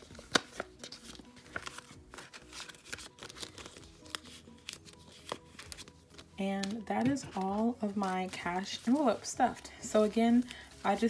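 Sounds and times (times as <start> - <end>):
banknotes and plastic rustling: 0.0 - 11.0
soft background music: 0.0 - 11.0.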